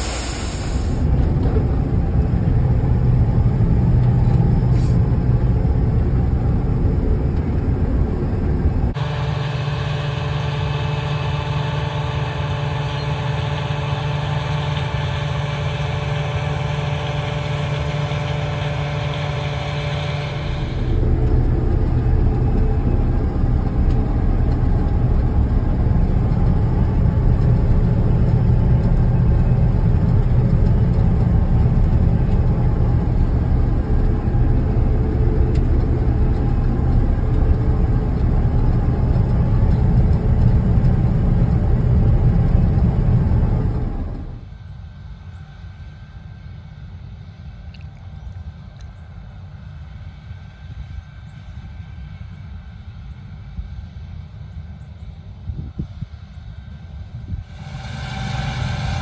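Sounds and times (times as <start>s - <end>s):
combine harvester engine hum: 0.0s - 59.0s
rough rumble inside cab: 0.0s - 59.0s.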